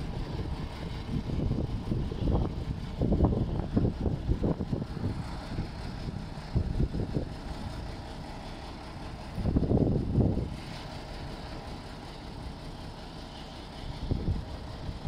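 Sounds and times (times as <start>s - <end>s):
crane engine running: 0.0s - 15.0s
low rumbling surges: 0.0s - 15.0s.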